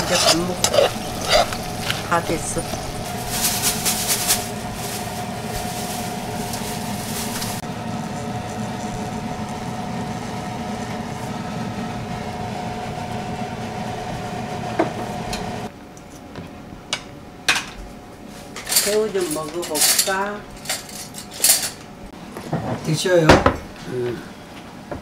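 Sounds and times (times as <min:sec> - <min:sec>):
range hood fan humming: 0:00.0 - 0:25.0.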